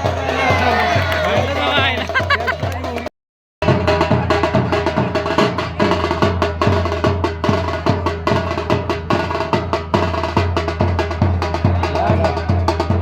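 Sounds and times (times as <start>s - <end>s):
fast drum strokes: 0.0s - 13.0s.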